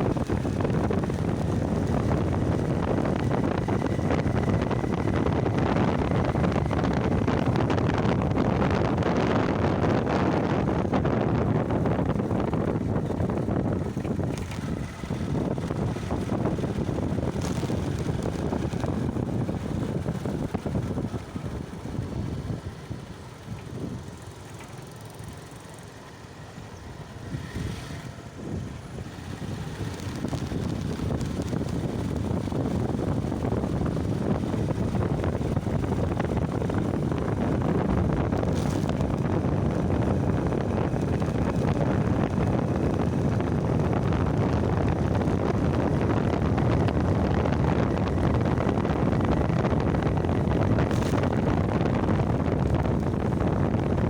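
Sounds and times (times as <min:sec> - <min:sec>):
road and vehicle noise: 0:00.0 - 0:54.0
wind rushing over microphone: 0:00.0 - 0:54.0.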